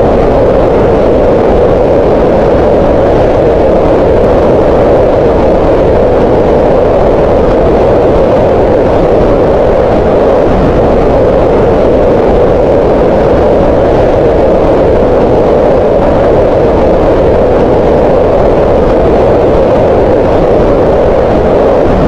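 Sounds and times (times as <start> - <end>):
green noise rush: 0.0 - 22.0.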